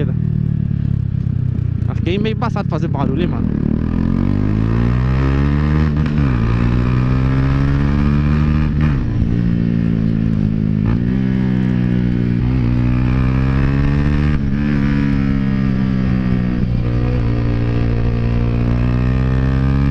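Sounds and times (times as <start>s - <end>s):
motorcycle engine through loud exhaust: 0.0s - 19.9s.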